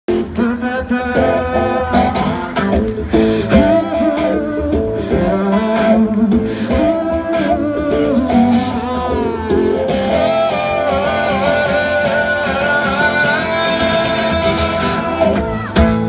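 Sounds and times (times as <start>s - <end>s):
acoustic guitar: 0.1s - 16.0s
person singing: 0.1s - 16.0s.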